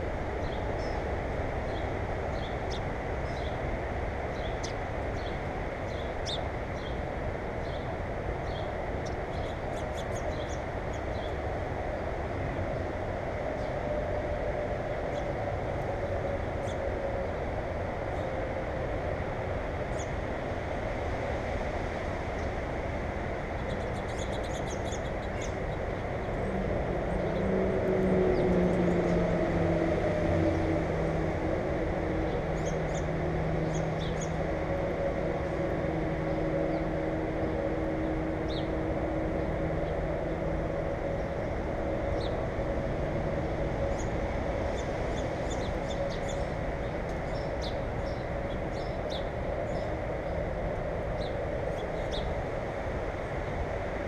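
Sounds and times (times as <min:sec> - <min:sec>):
engine hum: 0:00.0 - 0:54.0
songbirds chirping: 0:00.0 - 0:54.0
steady low rumble: 0:00.0 - 0:54.0.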